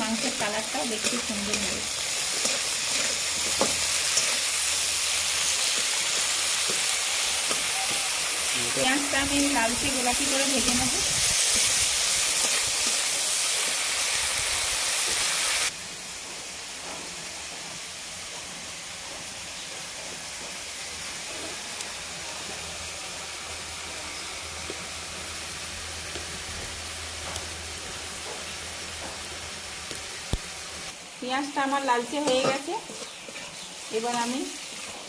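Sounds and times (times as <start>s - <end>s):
onions sizzling in hot oil: 0.0s - 35.0s.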